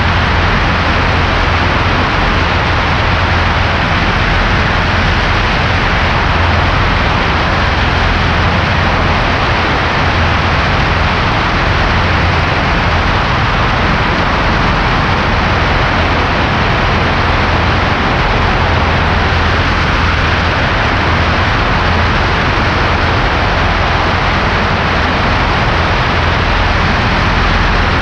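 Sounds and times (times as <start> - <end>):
airplane engine and propeller droning: 0.0 - 28.0.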